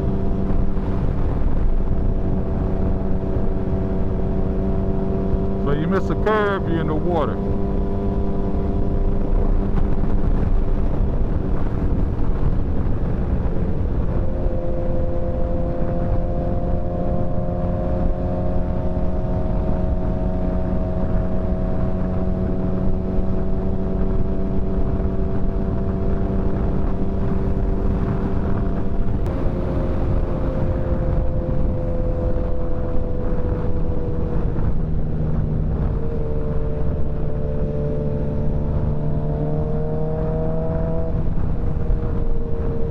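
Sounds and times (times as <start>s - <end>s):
motorcycle engine cruising: 0.0s - 42.9s
wind rush on microphone: 0.0s - 42.9s.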